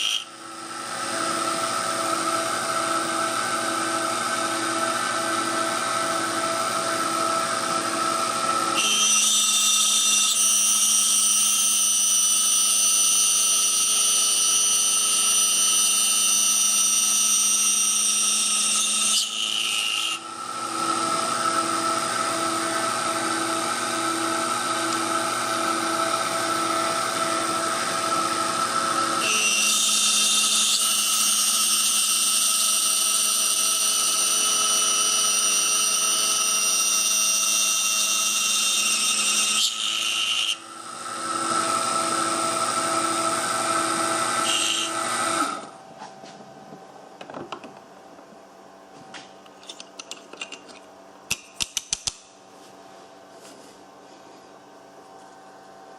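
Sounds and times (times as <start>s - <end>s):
milling machine spindle whine: 0.0s - 45.8s.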